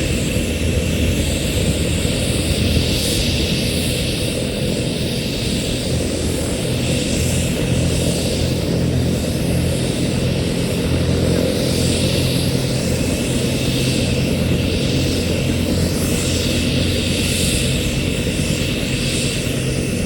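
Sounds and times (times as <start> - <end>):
helicopter rotor drone: 0.0 - 20.0
turbine hiss: 0.0 - 20.0.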